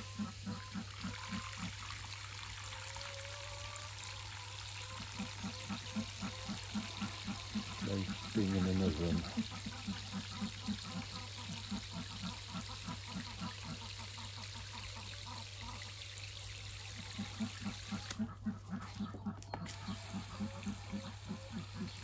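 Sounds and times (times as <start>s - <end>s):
running water hissing: 0.0s - 19.1s, 19.7s - 22.0s.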